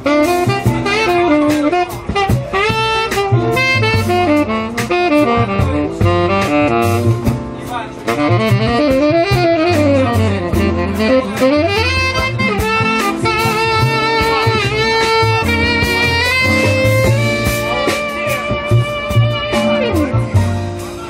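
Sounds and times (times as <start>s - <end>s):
double bass: 0.0s - 21.0s
drums: 0.0s - 21.0s
tenor saxophone solo: 0.0s - 21.0s.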